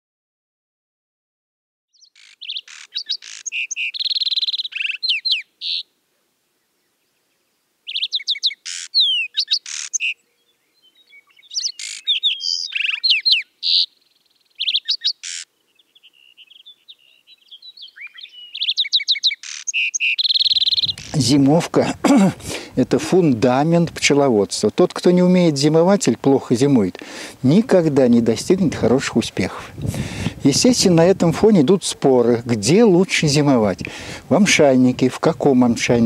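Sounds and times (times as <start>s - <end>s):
songbird singing: 1.9s - 36.0s.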